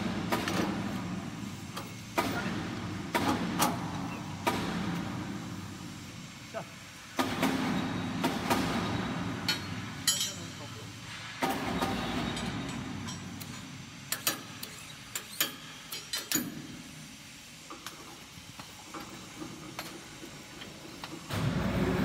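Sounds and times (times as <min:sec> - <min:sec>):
low workshop hum: 0:00.0 - 0:22.0.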